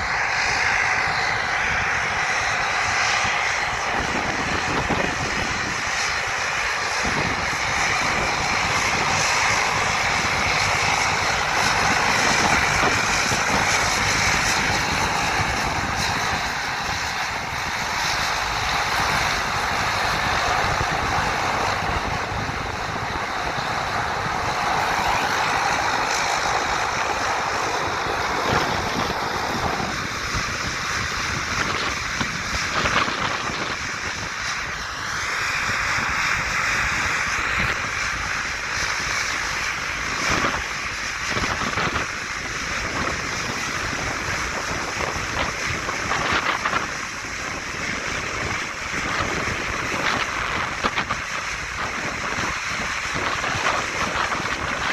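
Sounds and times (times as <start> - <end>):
high engine whine: 0.0 - 54.9
turboprop engines running: 0.0 - 54.9.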